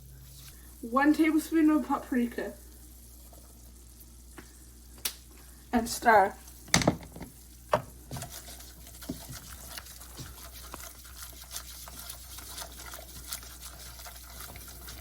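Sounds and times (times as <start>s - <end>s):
roux sizzling in a pan: 0.0s - 15.0s.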